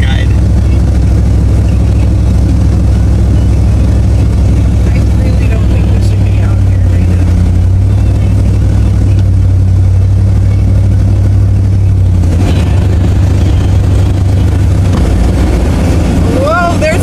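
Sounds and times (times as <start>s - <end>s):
car driving drone: 0.0s - 17.0s.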